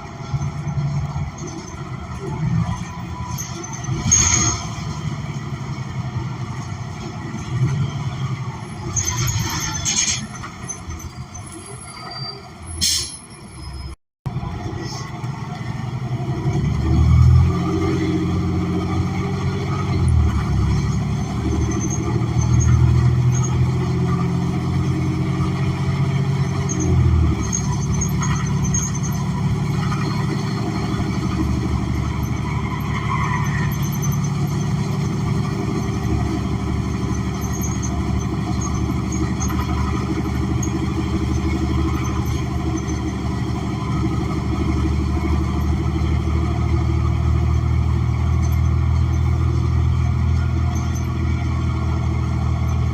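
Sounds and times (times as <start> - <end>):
bus engine running: 0.0 - 52.9
road noise rumble: 0.0 - 52.9.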